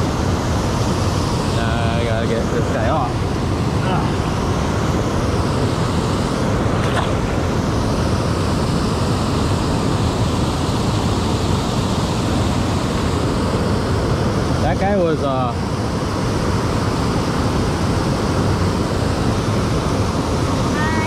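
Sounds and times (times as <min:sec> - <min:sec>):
water rushing over dam: 0:00.0 - 0:21.0.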